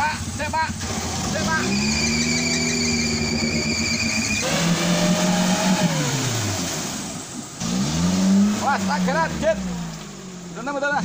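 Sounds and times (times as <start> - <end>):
engine revving hard: 0.0 - 10.0.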